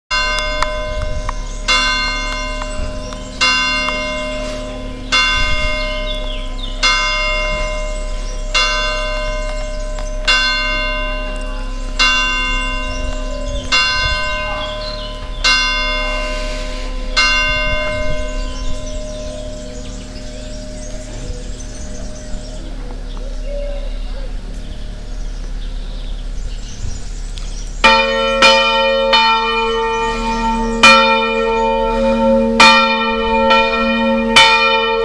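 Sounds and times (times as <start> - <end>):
church bell striking: 0.1 - 26.4, 27.8 - 35.0.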